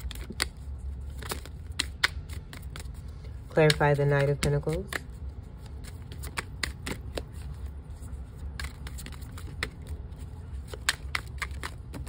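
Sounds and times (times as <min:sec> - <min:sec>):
cards being shuffled: 0:00.0 - 0:12.0
steady low hum: 0:00.0 - 0:12.0.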